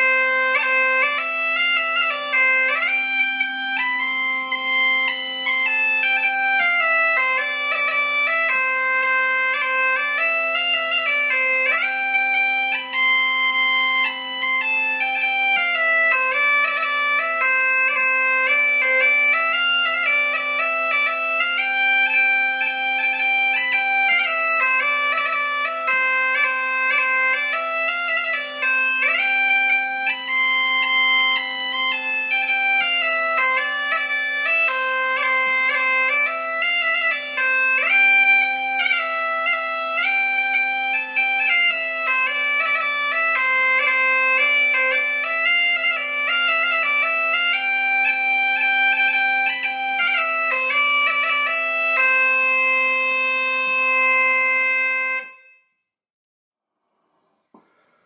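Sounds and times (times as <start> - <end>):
bagpipe melody with drone: 0.0 - 55.7.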